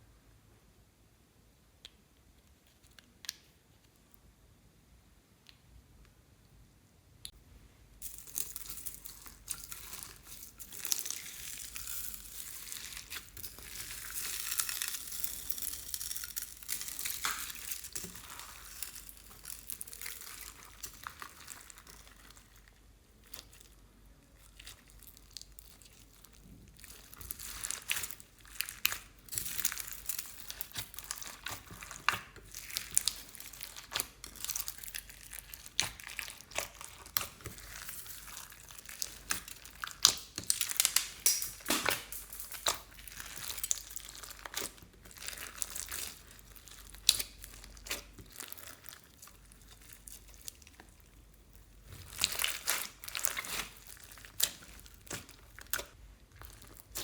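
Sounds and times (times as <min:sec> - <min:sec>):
slime squished by hand: 0:08.0 - 0:22.6, 0:24.3 - 0:57.0.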